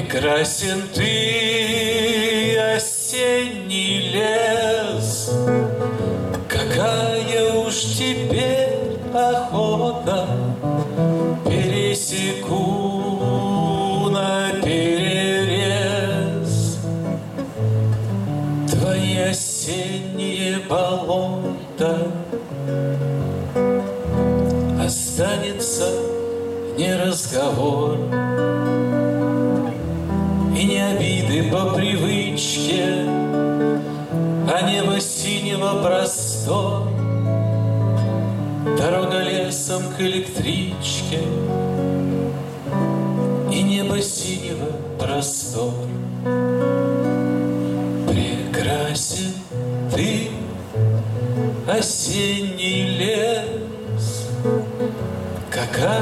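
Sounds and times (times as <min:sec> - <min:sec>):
man singing slow song: 0:00.0 - 0:17.6, 0:18.4 - 0:23.2, 0:24.1 - 0:56.0
acoustic guitar: 0:00.0 - 0:56.0.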